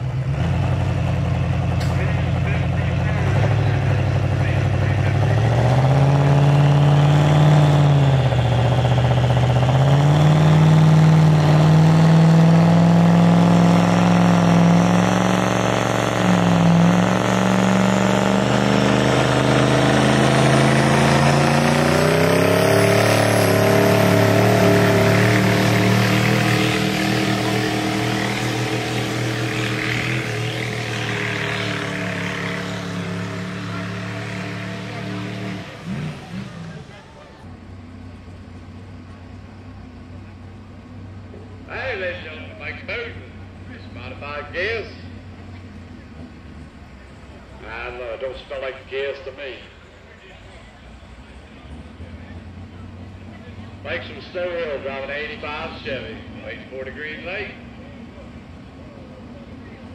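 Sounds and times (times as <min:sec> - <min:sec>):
pickup engine revving under load: 0:00.0 - 0:59.9.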